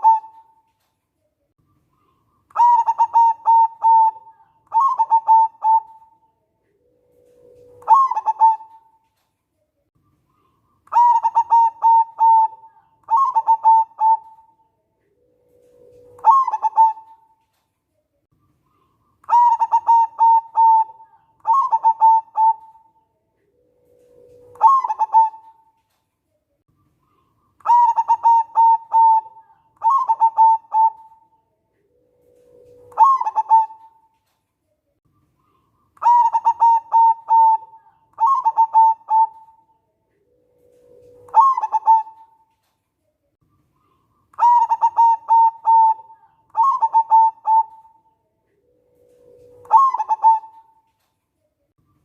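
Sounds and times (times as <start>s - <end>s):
dove cooing: 0.0s - 0.7s, 2.0s - 9.0s, 10.4s - 17.6s, 18.7s - 26.0s, 27.0s - 34.4s, 35.4s - 42.7s, 43.7s - 51.1s.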